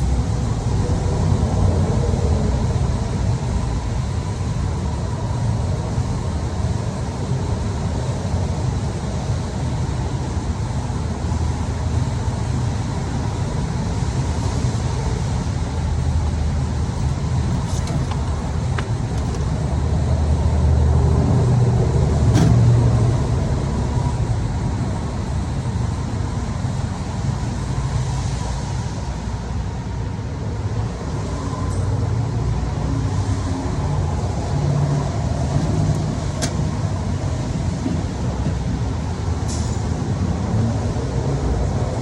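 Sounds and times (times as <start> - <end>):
motor vehicle rumble: 0.0 - 42.0.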